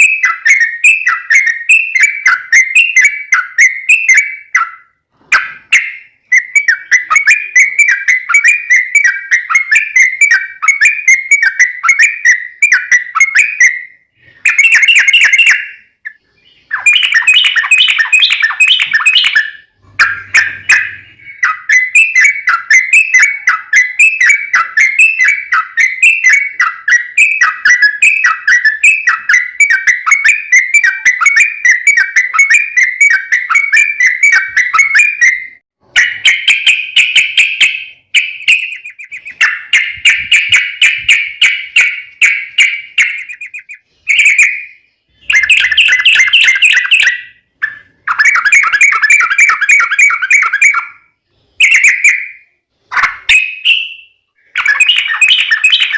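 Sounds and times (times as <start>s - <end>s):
bulbul chattering song: 0.0s - 55.9s.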